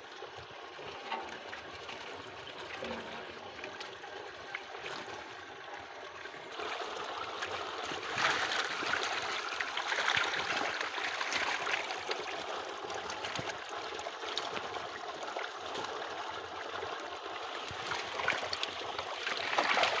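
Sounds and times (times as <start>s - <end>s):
water splashing and churning: 0.1s - 20.0s.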